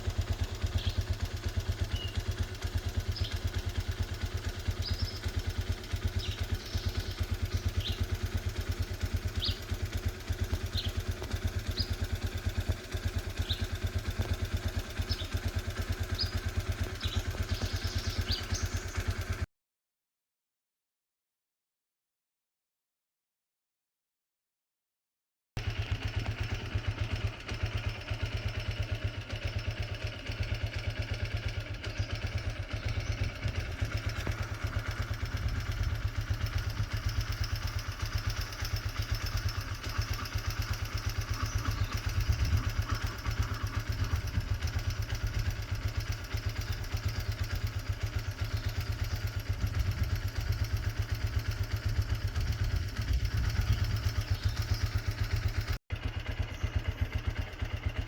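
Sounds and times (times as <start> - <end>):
vehicle engine running: 0.0 - 19.5, 25.6 - 58.0.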